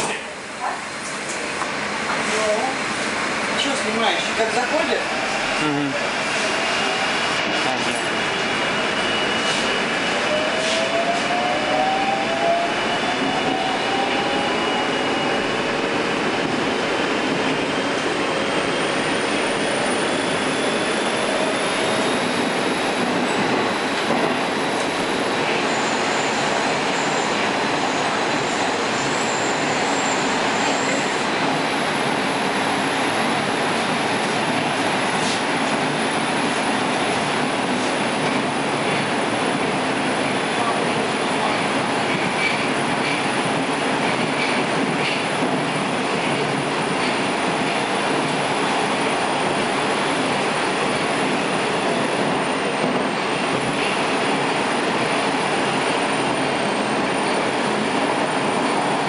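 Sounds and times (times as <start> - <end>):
metro train running on rails: 0.0 - 59.0.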